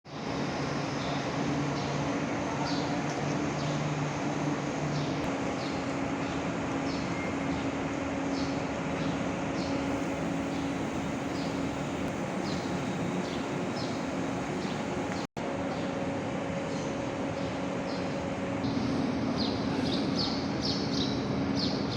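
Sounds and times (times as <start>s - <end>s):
crane engine humming: 0.1s - 19.9s.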